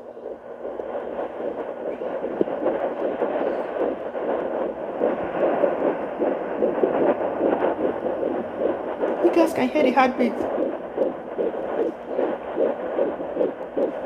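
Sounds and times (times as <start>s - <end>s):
whooshing fluttering heartbeat pulse: 0.0s - 14.0s.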